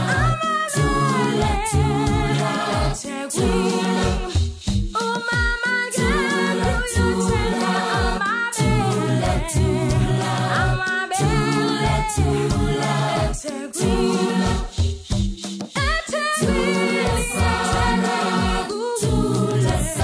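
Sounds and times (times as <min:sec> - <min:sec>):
a cappella choir singing: 0:00.0 - 0:20.0.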